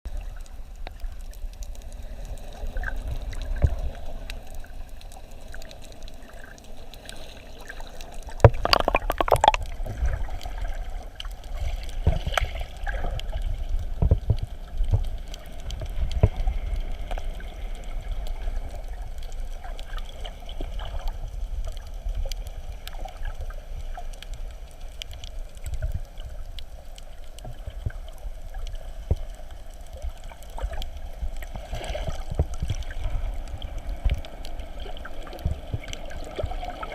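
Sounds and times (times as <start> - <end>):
underwater bubbling: 0.1 - 36.9
water sloshing and gurgling: 2.3 - 36.9.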